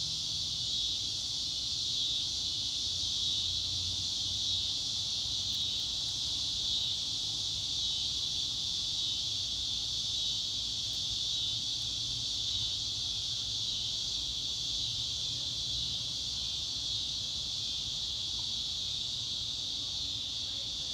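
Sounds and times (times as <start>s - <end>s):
high-pitched insect chorus: 0.0s - 20.9s.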